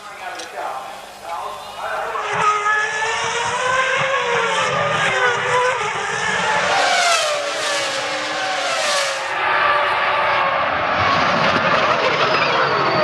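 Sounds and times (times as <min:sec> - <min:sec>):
racing car engines at high revs: 0:02.0 - 0:13.0
racing cars passing by: 0:02.1 - 0:13.0.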